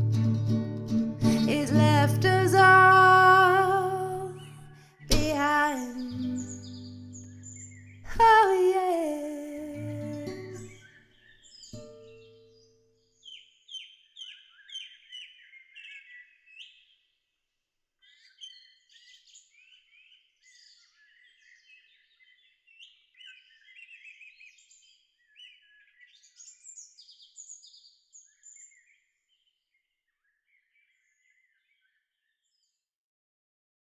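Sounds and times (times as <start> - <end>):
songbird chirping: 1.5 - 8.9, 9.8 - 17.1, 18.0 - 32.8.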